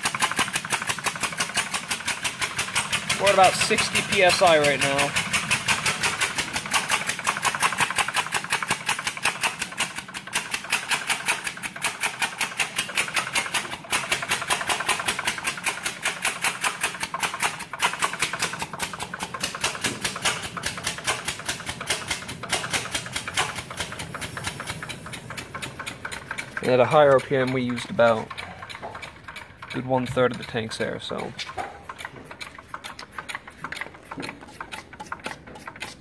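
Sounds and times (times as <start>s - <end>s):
air-powered engine clacking: 0.0s - 36.0s.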